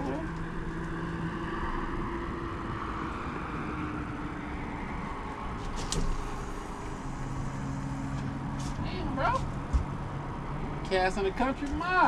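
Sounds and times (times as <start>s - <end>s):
low engine hum: 0.0s - 12.0s
wind: 0.0s - 12.0s.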